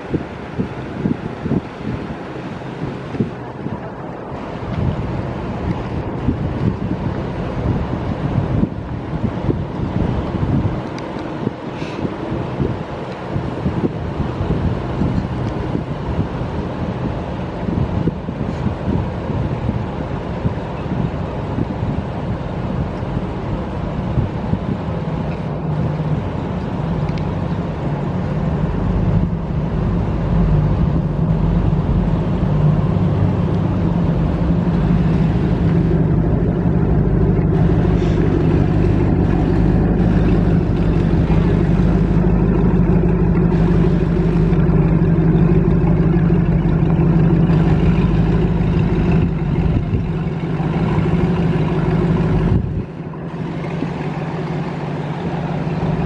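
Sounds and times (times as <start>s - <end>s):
boat engines humming: 0.0s - 56.0s.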